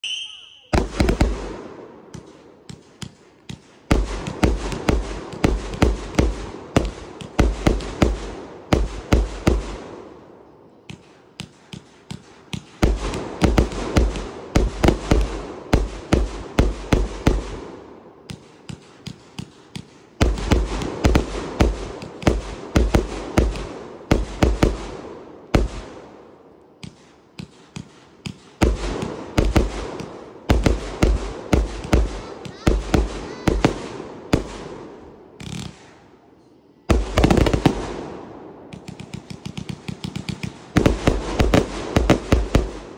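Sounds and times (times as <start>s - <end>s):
fireworks cake firing bangs: 0.1s - 10.1s, 10.8s - 26.2s, 26.8s - 36.2s, 36.9s - 42.9s.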